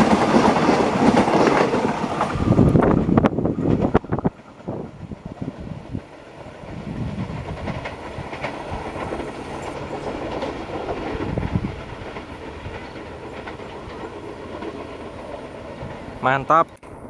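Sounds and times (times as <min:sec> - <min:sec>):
wheels clacking over rail joints: 0:00.0 - 0:16.7
electric train passing: 0:00.0 - 0:17.0.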